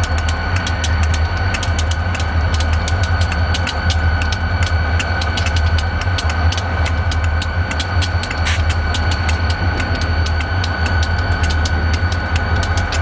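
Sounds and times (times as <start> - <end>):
high whine: 0.0 - 13.0
locomotive engine idling: 0.0 - 13.0
rapid irregular ticking: 0.0 - 13.0.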